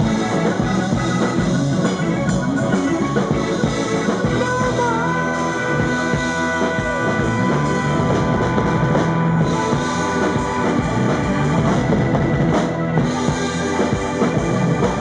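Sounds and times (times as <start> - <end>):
drum kit: 0.0 - 15.0
electric guitar: 0.0 - 15.0.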